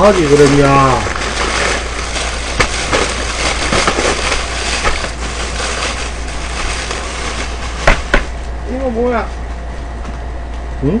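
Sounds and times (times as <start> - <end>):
paper bags and wrapping crinkling: 0.0 - 10.6
steady low hum: 0.0 - 11.0.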